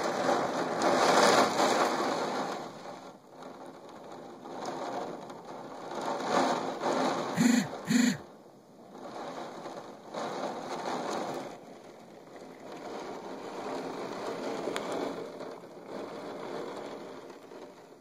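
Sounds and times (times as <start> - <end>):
heavy rain falling: 0.0 - 8.2, 8.9 - 17.6.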